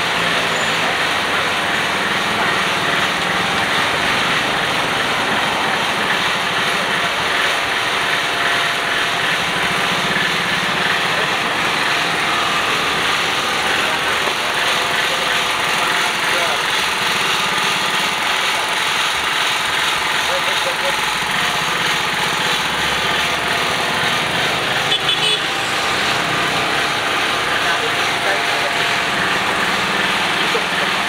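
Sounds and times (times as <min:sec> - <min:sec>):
small generator running: 0:00.0 - 0:31.0.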